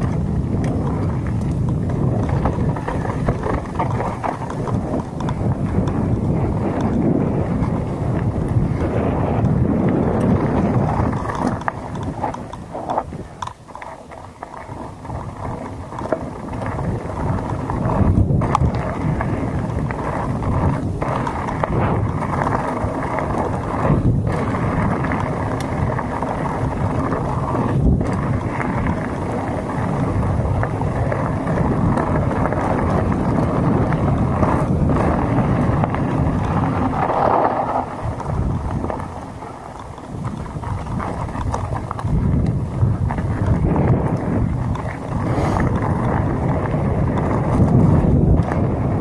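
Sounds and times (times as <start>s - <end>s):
bike tyres on gravel: 0.0s - 49.0s
wind buffeting microphone: 0.0s - 49.0s.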